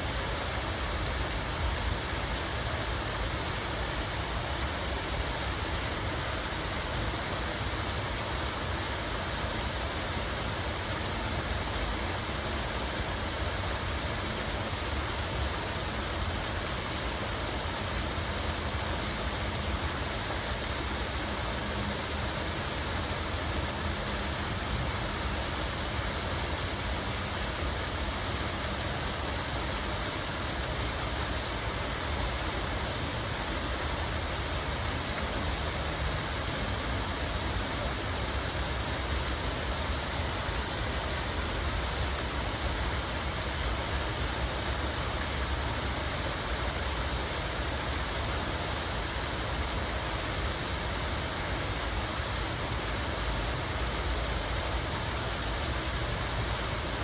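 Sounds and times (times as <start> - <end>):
fountain water rushing: 0.0 - 57.0.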